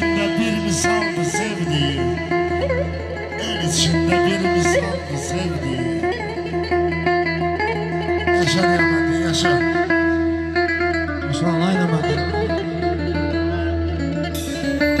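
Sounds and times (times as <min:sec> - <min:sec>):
plucked string melody: 0:00.0 - 0:15.0
steady held notes: 0:00.0 - 0:15.0.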